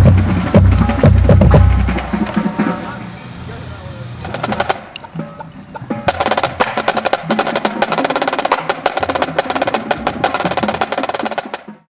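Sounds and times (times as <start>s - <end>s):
marching snare drums: 0.0s - 3.1s, 4.2s - 11.9s.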